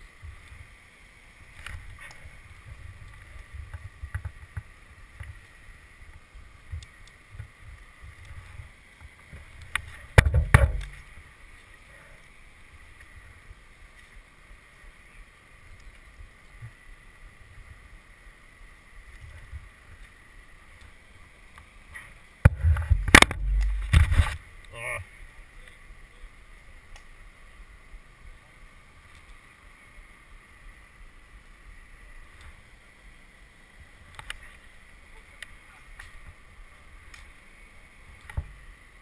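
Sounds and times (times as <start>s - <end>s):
faint steady whine: 0.0s - 39.0s.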